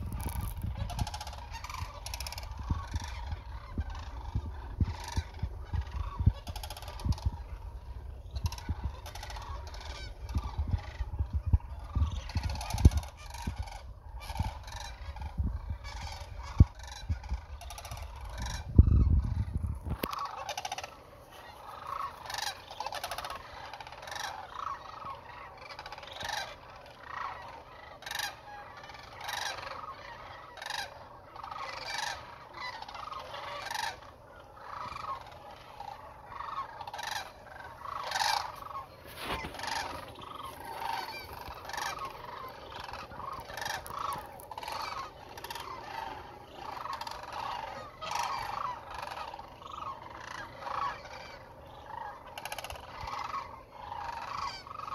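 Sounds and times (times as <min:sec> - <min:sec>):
flock of cranes calling: 0:00.0 - 0:54.9.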